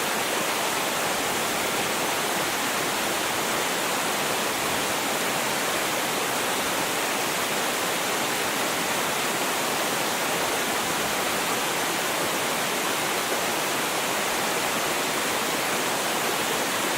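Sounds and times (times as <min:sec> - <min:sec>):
water rushing in waterfall: 0:00.0 - 0:16.9.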